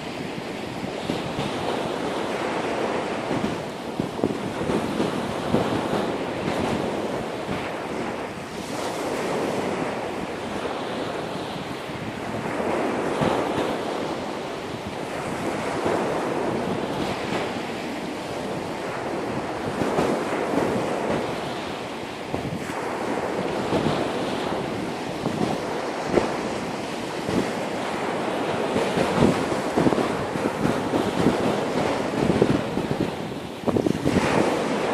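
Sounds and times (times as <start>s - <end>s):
sea waves washing on beach: 0.0s - 34.9s
wind buffeting microphone: 0.0s - 34.9s.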